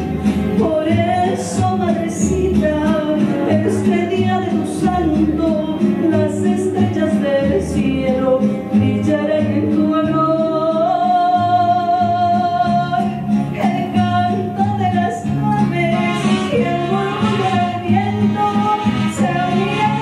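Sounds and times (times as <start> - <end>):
backing music: 0.0 - 20.0
woman singing into microphone: 0.0 - 20.0.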